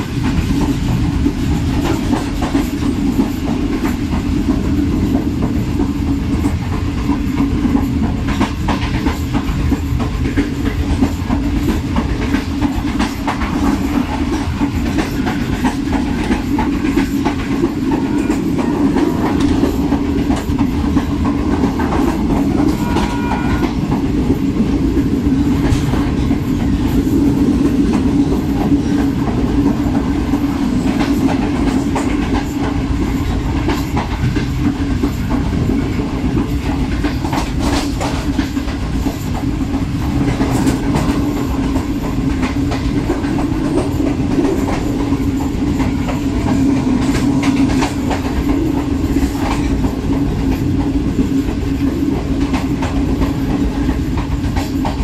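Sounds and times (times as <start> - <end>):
train wheels rumbling on rails: 0.0 - 55.0
wheels clicking over rail joints: 0.2 - 55.0.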